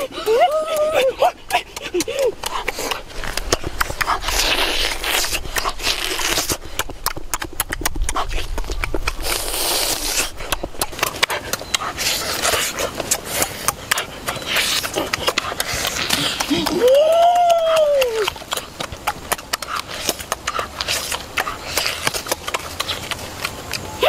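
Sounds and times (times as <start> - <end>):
chewing and lip smacking: 0.0 - 24.0
slurping and sucking: 1.5 - 17.0, 17.8 - 23.8.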